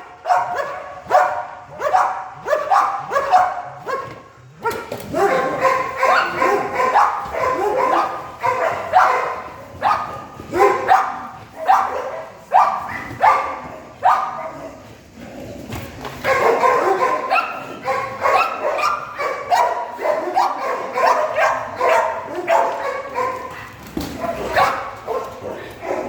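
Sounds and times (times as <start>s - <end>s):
dog barking: 0.0s - 14.8s, 16.2s - 26.0s.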